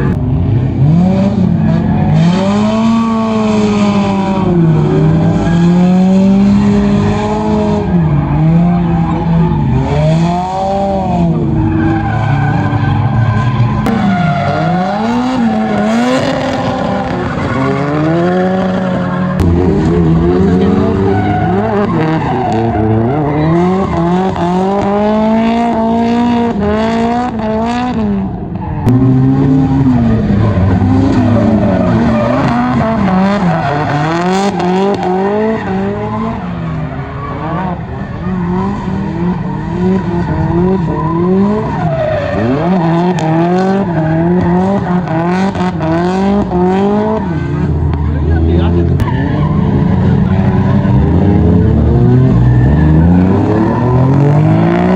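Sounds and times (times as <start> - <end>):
car engines revving hard: 0.0 - 54.9
tyres squealing and skidding: 1.4 - 27.4, 28.3 - 54.9.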